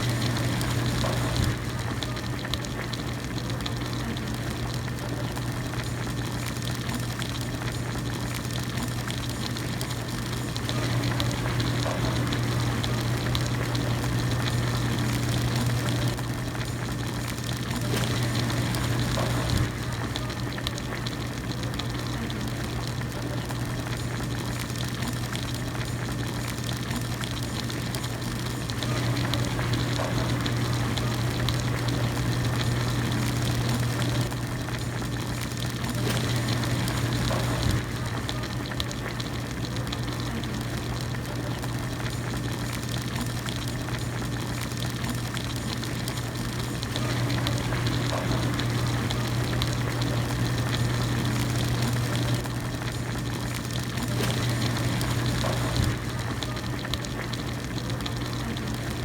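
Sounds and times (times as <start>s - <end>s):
broth boiling in a pot: 0.0s - 59.0s
steady low hum: 0.0s - 59.0s.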